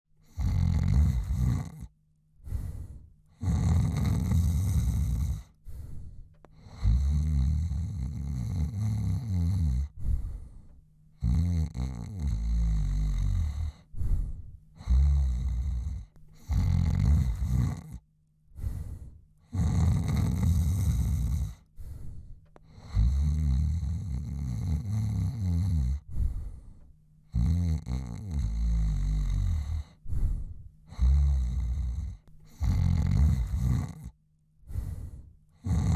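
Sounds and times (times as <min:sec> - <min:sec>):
man snoring: 0:00.2 - 0:18.0, 0:18.6 - 0:35.9.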